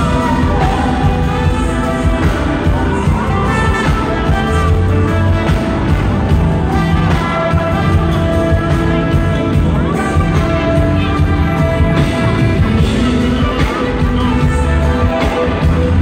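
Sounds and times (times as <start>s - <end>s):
live band music with heavy bass: 0.0s - 16.0s.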